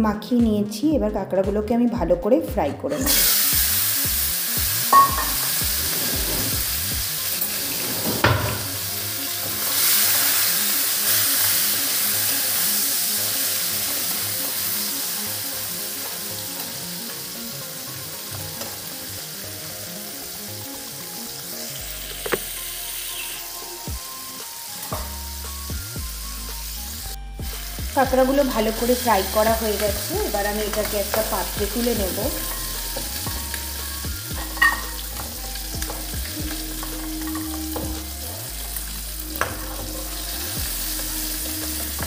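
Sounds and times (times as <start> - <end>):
food sizzling in hot oil: 3.0 - 42.0.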